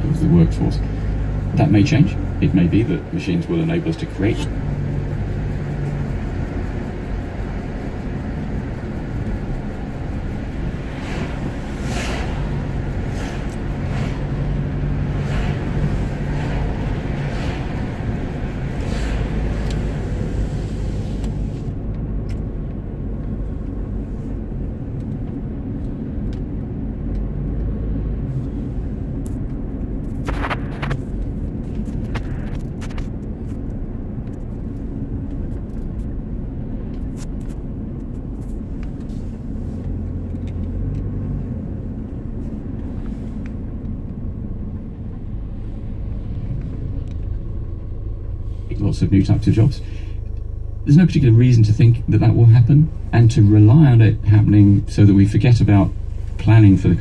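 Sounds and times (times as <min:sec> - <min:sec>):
road knocks and clatters: 0:00.0 - 0:48.5
car engine and road rumble: 0:00.0 - 0:57.0.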